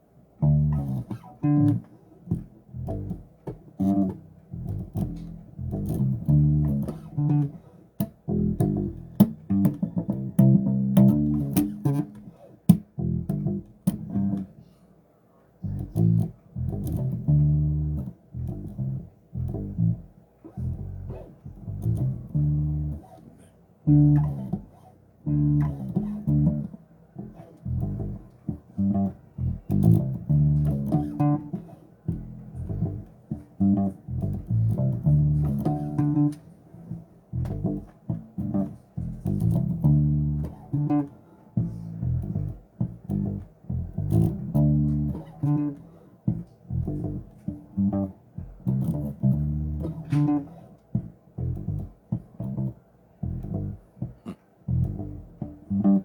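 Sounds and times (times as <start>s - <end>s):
bass guitar plucked notes: 0.4s - 14.5s, 15.7s - 23.2s, 23.9s - 56.0s.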